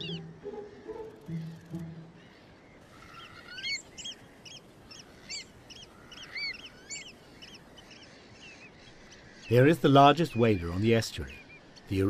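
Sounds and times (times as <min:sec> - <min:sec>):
wading birds piping: 0:00.0 - 0:12.0.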